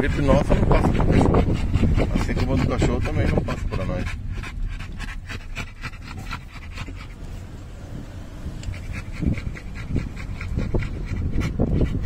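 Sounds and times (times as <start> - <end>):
dog panting: 0.0 - 7.6, 8.5 - 12.0
low steady rumble: 0.0 - 12.0.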